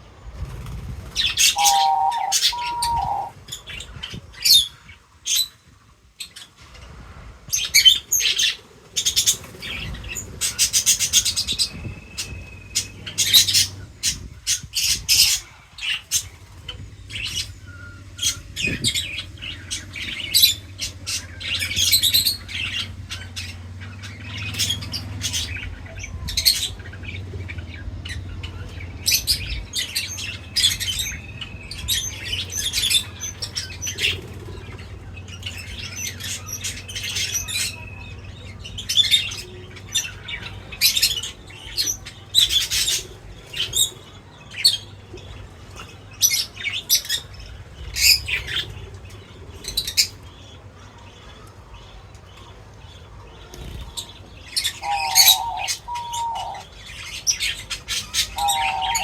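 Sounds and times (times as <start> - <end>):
small birds chirping and squawking: 0.0 - 59.0.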